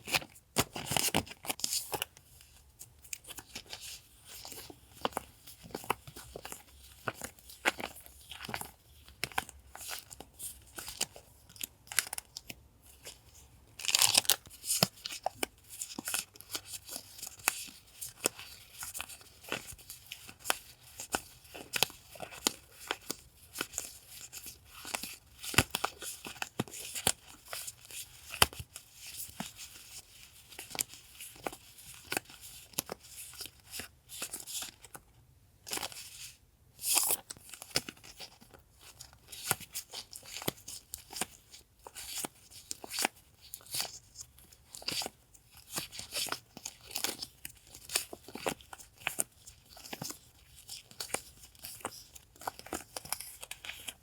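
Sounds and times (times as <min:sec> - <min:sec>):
paper rustling and crinkling: 0:00.0 - 0:35.0, 0:35.7 - 0:54.0.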